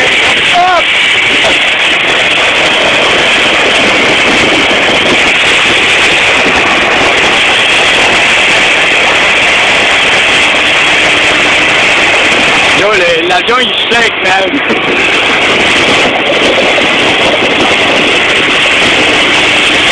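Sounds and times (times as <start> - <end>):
turboprop engines roaring: 0.0 - 19.9.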